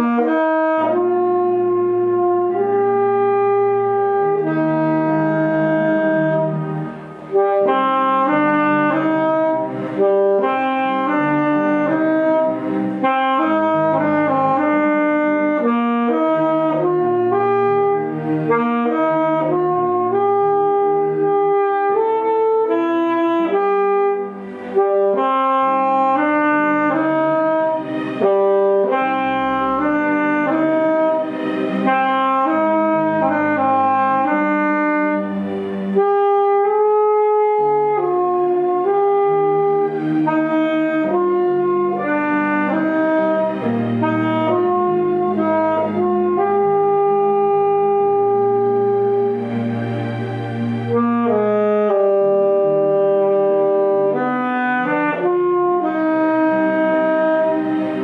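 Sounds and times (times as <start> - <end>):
alto saxophone ballad melody: 0.0 - 58.0
lower accompaniment: 0.0 - 58.0.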